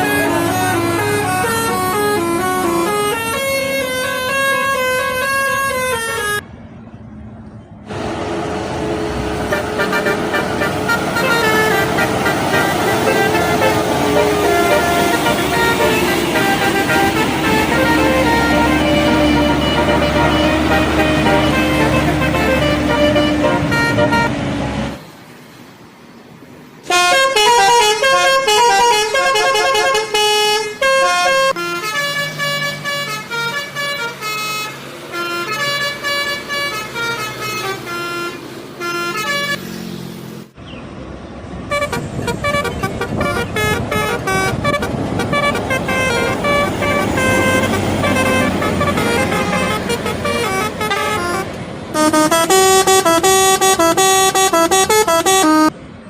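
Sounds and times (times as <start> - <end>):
bus horns playing tunes: 0.0 - 6.4, 7.9 - 25.0, 26.8 - 39.7, 41.7 - 55.8
bus engine running: 0.0 - 56.0.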